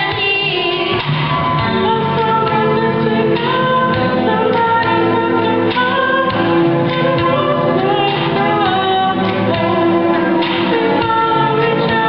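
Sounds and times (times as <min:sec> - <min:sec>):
choir singing with music: 0:00.0 - 0:12.0.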